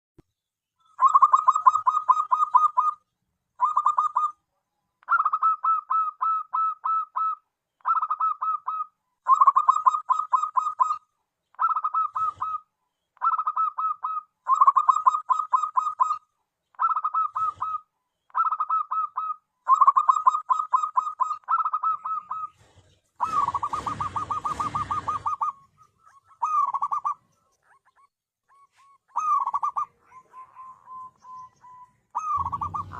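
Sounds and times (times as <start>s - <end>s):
dove cooing: 1.0s - 3.0s, 3.6s - 4.4s, 5.1s - 11.0s, 11.6s - 16.2s, 16.8s - 32.9s.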